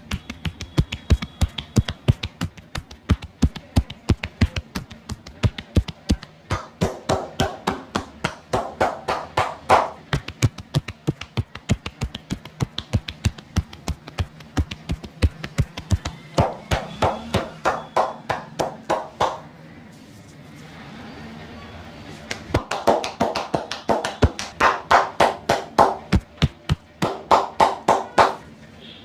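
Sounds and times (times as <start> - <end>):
hands tapping and slapping on body: 0.0 - 19.4, 22.3 - 28.4.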